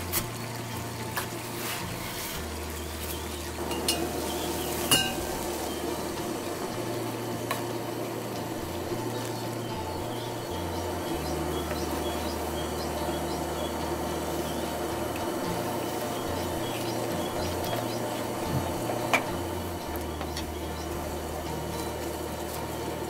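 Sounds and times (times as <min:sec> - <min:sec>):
water boiling in a pot: 0:00.0 - 0:23.0.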